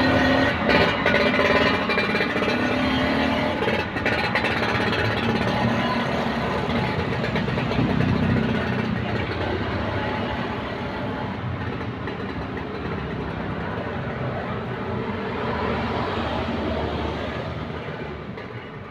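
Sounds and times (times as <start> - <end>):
scooter engine running: 0.0 - 15.9.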